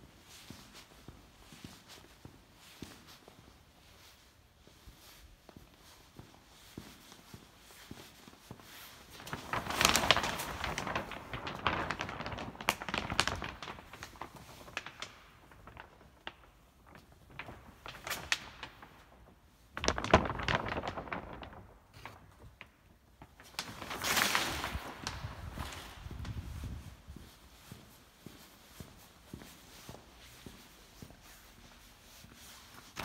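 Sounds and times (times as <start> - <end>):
plastic sheeting rustling: 0.1 - 33.0.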